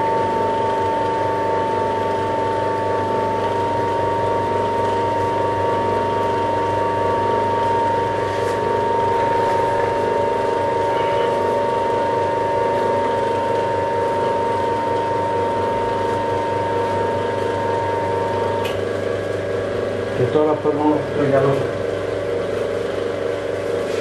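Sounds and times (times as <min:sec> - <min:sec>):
high steady whine: 0:00.0 - 0:24.0
metal lathe running: 0:00.0 - 0:24.0.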